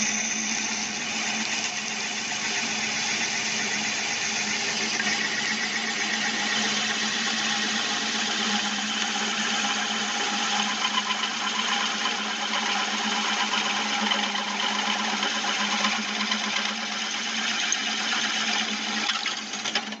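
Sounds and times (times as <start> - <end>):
drill cutting metal: 0.0 - 20.0
drill motor hum: 0.0 - 20.0.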